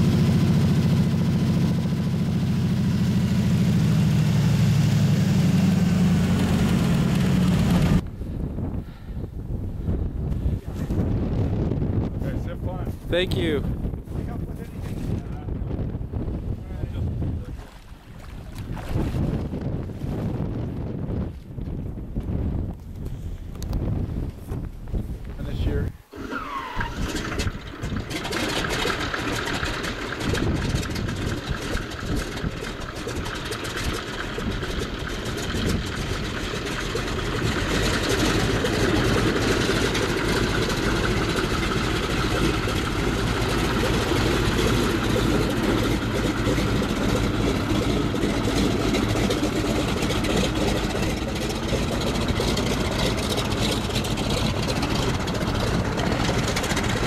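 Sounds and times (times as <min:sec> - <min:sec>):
floatplane engine running: 0:00.0 - 0:24.0, 0:26.1 - 0:57.0.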